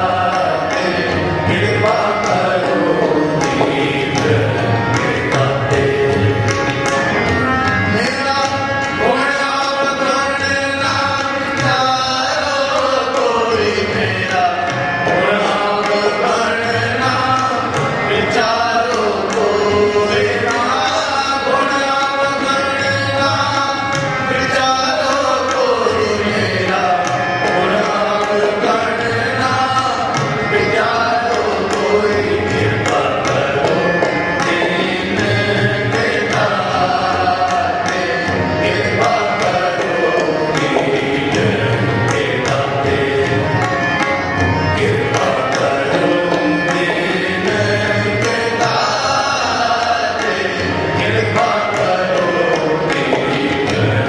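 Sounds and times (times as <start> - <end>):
men singing a hymn: 0.0 - 6.6, 7.8 - 54.0
harmoniums: 0.0 - 54.0
tabla rhythm: 0.0 - 54.0.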